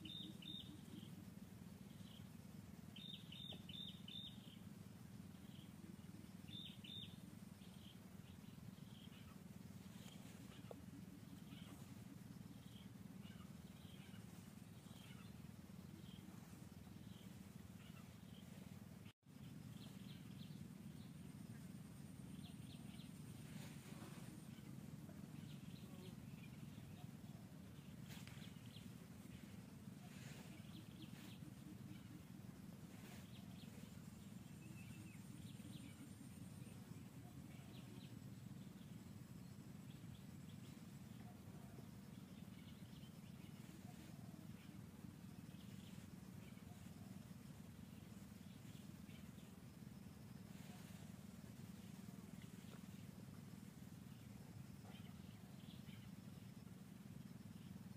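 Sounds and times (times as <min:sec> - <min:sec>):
faint high chirps: 0:00.0 - 0:57.9
low hum: 0:00.0 - 0:57.9.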